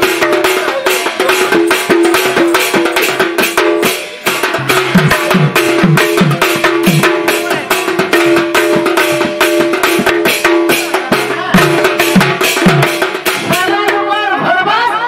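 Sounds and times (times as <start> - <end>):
barrel drum fast rhythm: 0.0 - 14.8.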